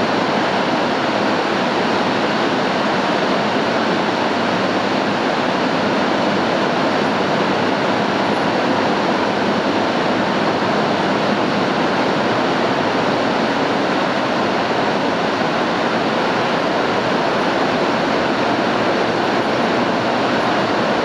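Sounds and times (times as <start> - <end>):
heavy rain on a tin roof: 0.0 - 21.0.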